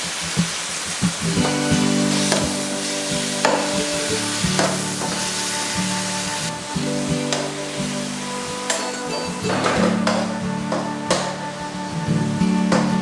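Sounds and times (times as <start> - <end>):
food sizzling in a pan: 0.0 - 13.0
background music: 1.3 - 13.0.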